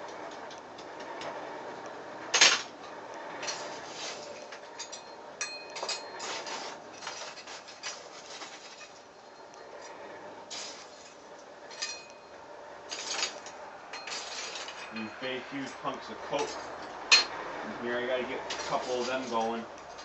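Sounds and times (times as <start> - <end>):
forge tools clinking and scraping: 2.4 - 17.4, 18.2 - 20.0.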